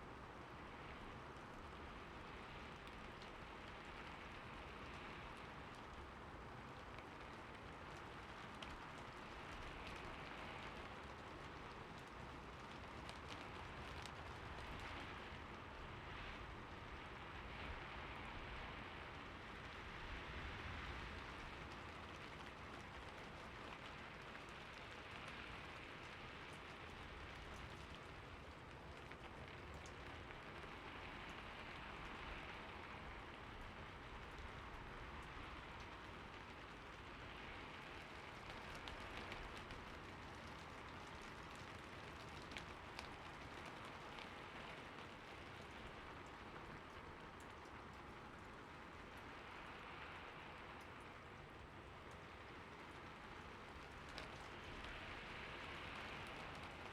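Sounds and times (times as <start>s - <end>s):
steady rain hiss: 0.0s - 56.9s
rain drop ticks: 0.1s - 56.9s.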